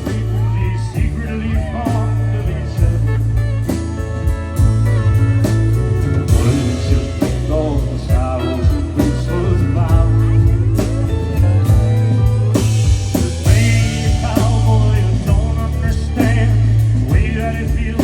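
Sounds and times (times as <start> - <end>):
live country band instrumental: 0.0 - 18.0.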